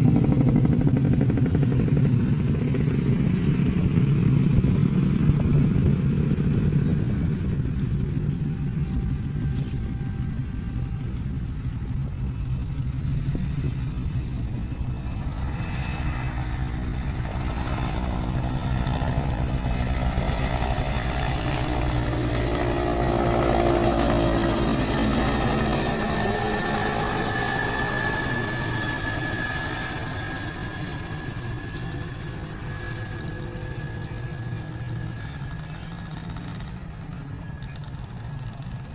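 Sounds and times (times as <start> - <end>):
helicopter flying overhead: 0.0 - 38.9.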